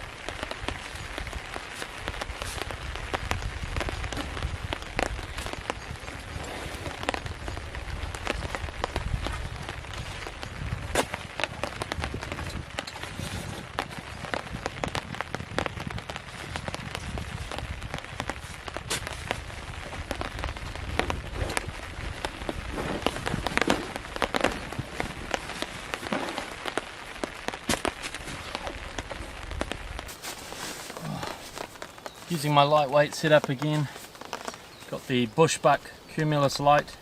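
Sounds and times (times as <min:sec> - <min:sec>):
sharp raindrop strikes: 0:00.0 - 0:30.3
steady rain: 0:00.0 - 0:37.0.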